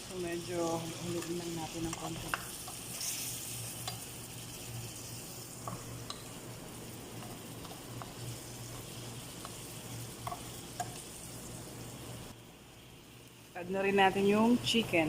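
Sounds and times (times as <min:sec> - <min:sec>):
shrimp sizzling in a pan: 0:00.0 - 0:14.9.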